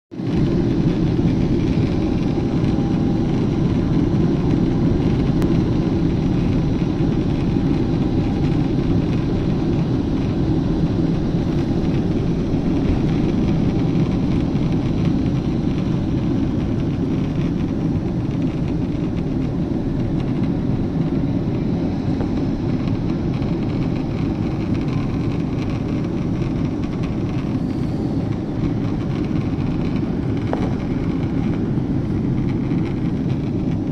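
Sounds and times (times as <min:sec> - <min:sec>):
jet cabin engine rumble: 0:00.1 - 0:33.9.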